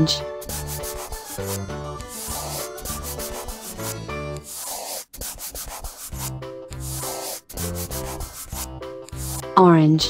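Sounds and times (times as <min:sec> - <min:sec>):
light background music: 0:00.0 - 0:10.0
marker scribbling on paper: 0:00.4 - 0:09.6.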